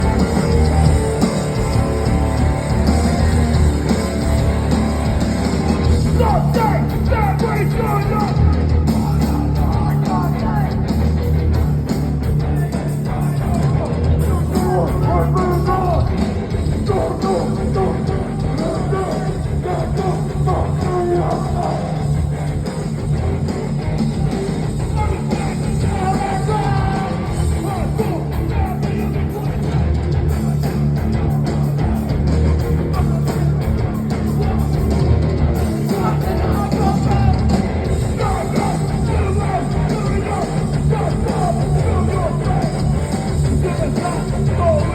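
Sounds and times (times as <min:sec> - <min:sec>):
vocals: 0:00.0 - 0:22.8, 0:24.7 - 0:44.9
heavy rock band playing live: 0:00.0 - 0:44.9.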